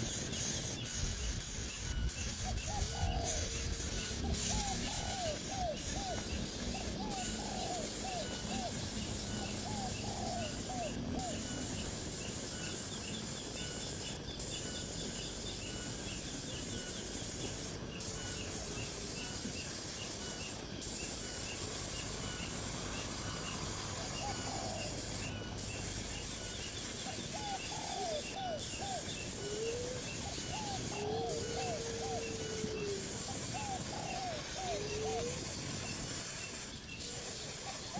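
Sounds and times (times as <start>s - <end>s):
steady background hiss: 0.0s - 37.9s.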